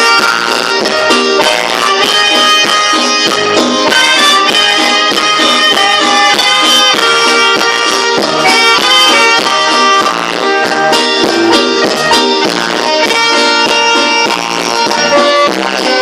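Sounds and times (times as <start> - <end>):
dance band music: 0.0 - 16.0.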